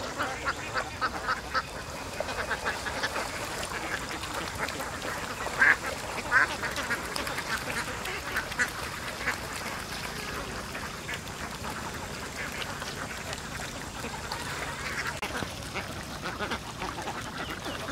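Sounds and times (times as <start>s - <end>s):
flock of ducks quacking: 0.0s - 17.9s.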